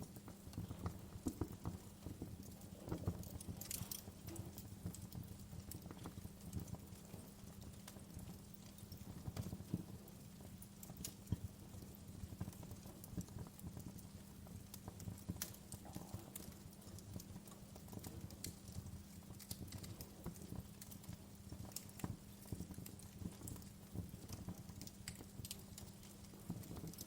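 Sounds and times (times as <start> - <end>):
logs crackling and popping: 0.0 - 27.0.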